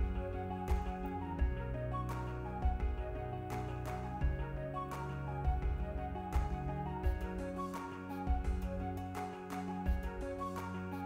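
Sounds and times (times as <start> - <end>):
melodic music with slow beat: 0.0 - 11.0.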